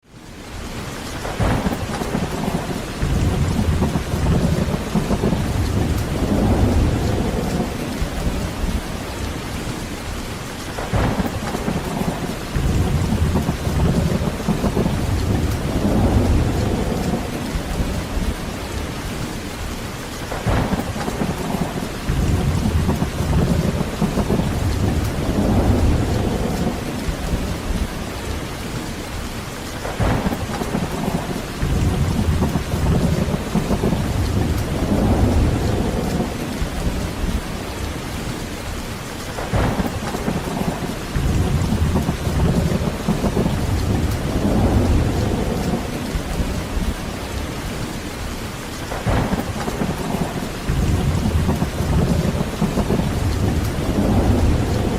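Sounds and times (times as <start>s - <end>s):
heavy rain falling: 0.0s - 54.9s
thunder rolling: 1.2s - 9.2s, 10.7s - 19.2s, 20.2s - 28.2s, 29.8s - 37.7s, 39.3s - 47.8s, 48.8s - 54.9s.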